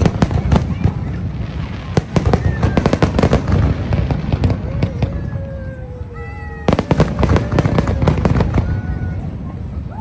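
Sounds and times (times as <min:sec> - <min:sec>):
fireworks popping and banging: 0:00.0 - 0:09.8.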